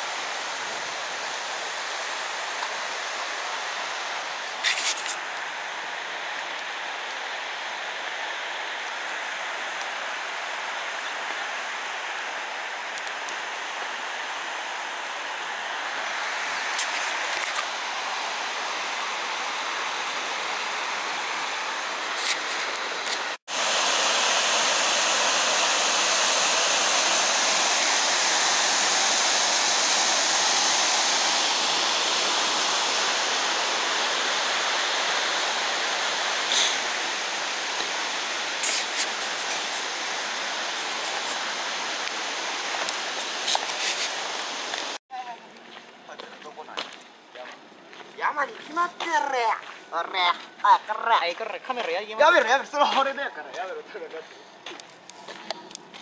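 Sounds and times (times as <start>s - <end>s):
rushing falling water: 0.0s - 45.0s.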